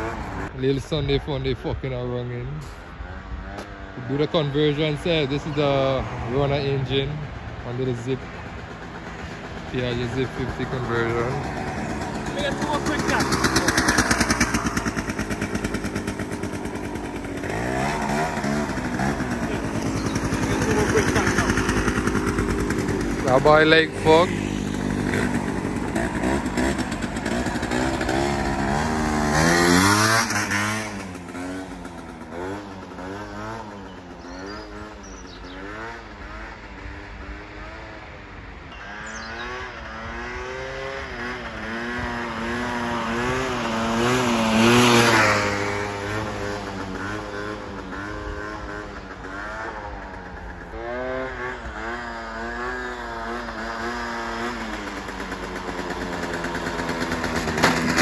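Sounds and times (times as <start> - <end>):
scooter engine revving: 0.0 - 0.7, 2.6 - 58.0.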